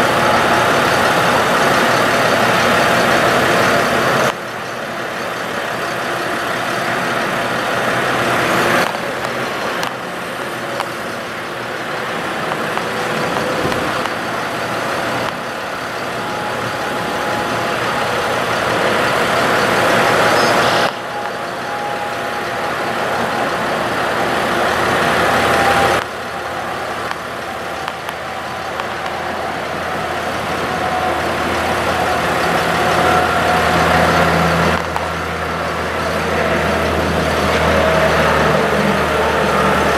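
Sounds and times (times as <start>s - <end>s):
diesel engine running: 0.0s - 39.9s
hydraulics whirring: 0.0s - 39.9s.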